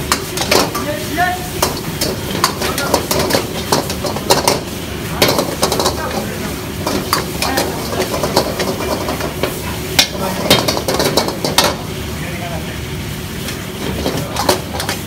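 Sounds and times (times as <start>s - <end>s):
ladle scraping and clanking on wok: 0.0s - 11.9s, 13.4s - 15.0s
gas burner rushing: 0.0s - 15.0s
noodles sizzling: 0.0s - 15.0s.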